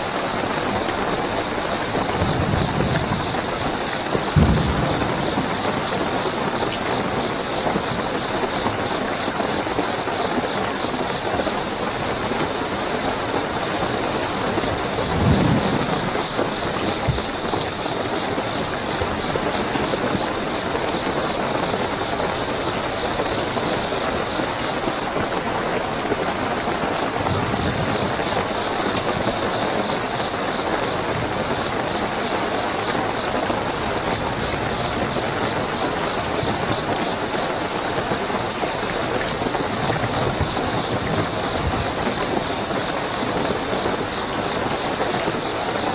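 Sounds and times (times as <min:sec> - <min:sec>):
crickets chirping: 0:00.0 - 0:45.9
heavy rainfall: 0:00.0 - 0:45.9.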